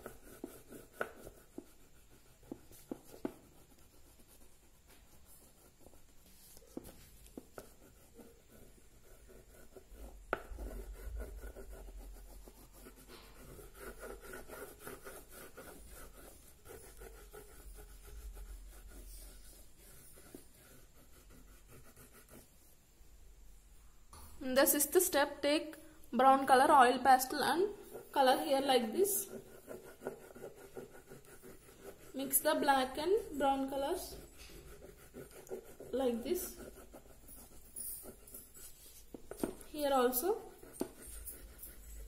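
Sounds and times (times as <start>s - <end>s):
oil pastel scratching on paper: 0.0s - 22.8s, 26.9s - 42.0s.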